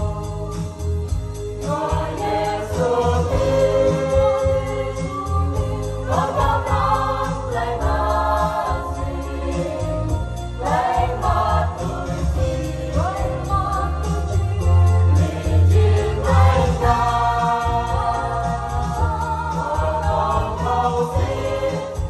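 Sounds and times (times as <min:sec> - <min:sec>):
choir singing a hymn: 0:00.0 - 0:00.9, 0:01.6 - 0:22.0
electronic keyboard accompaniment: 0:00.0 - 0:22.0.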